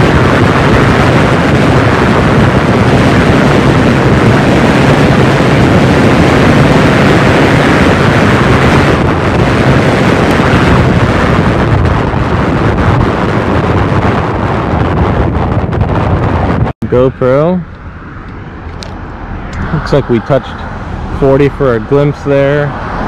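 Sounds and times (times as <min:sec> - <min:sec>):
road rumble: 0:00.0 - 0:23.0
wind buffeting on microphone: 0:00.0 - 0:23.0.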